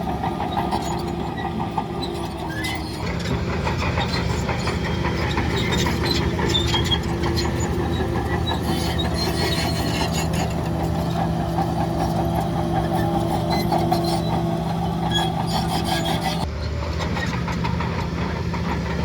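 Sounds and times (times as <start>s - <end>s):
high squeaks from tracks: 0.0s - 18.1s
bulldozer diesel engine running: 0.0s - 19.0s
metallic clanks from steel tracks: 0.0s - 19.0s.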